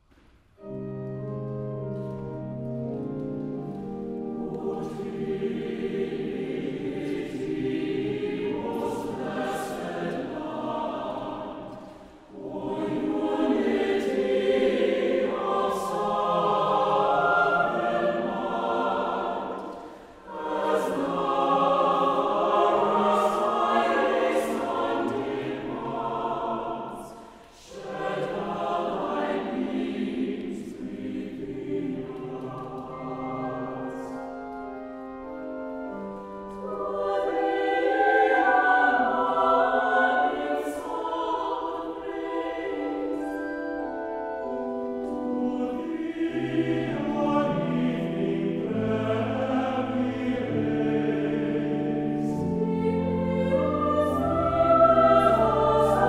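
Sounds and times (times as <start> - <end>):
mixed choir singing: 3.6 - 35.2, 35.9 - 56.0.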